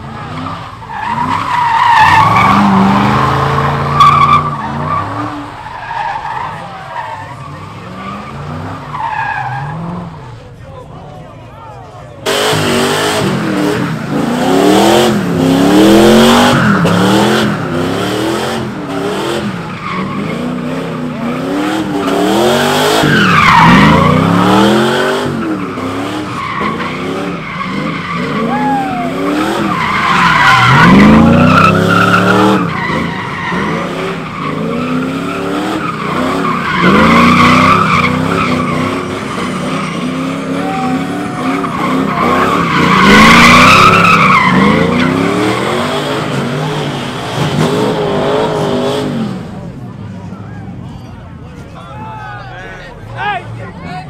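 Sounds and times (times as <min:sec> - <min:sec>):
car engine revving: 0:00.0 - 0:11.2, 0:12.2 - 0:50.0.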